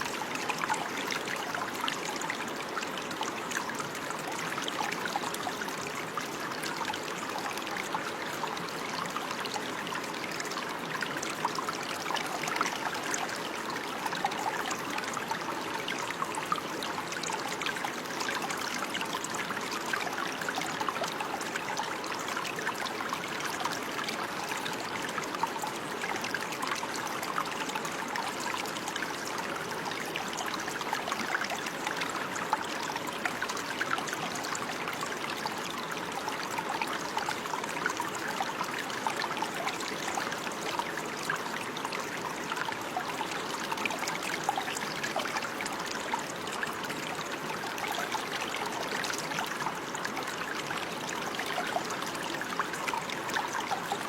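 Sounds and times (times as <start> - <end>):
stream water babbling: 0.0 - 54.0.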